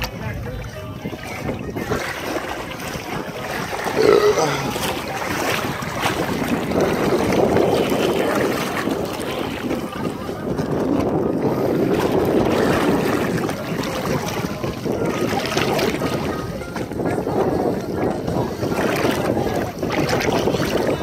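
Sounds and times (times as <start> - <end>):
water sloshing and lapping: 0.0 - 21.0
wind buffeting microphone: 0.0 - 21.0.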